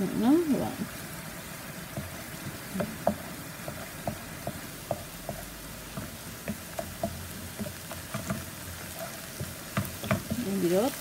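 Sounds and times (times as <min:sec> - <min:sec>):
onion frying in oil: 0:00.0 - 0:11.0
wooden spatula scraping a pan: 0:01.8 - 0:11.0.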